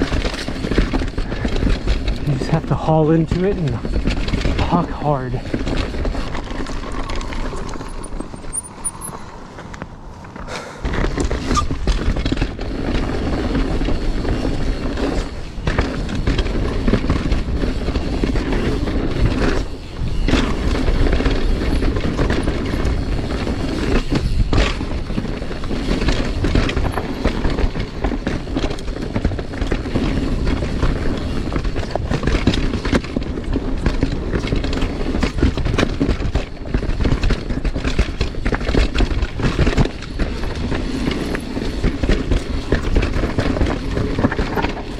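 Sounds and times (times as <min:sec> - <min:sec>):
bike knocking and rattling: 0:00.0 - 0:44.9
bike tyres rumbling on dirt: 0:00.0 - 0:44.9.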